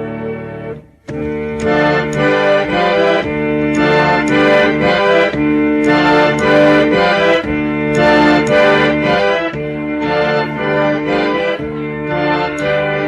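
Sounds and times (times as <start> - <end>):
harmonium playing chords: 0.0 - 13.0.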